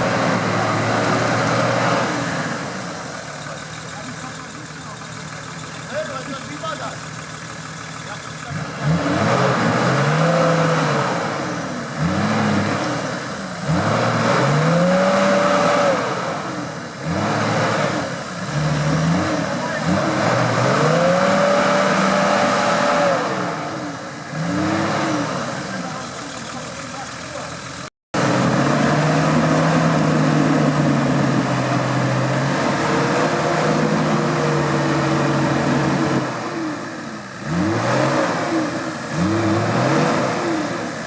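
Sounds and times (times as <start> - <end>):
off-road engine revving: 0.0 - 41.0.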